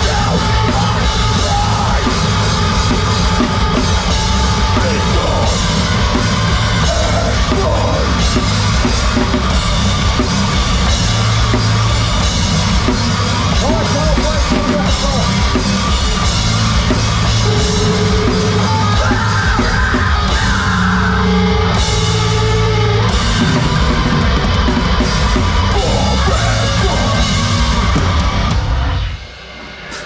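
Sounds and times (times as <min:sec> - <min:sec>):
vocals: 0:00.0 - 0:09.6, 0:13.0 - 0:30.0
drum kit: 0:00.0 - 0:30.0
heavy metal band playing: 0:00.0 - 0:30.0.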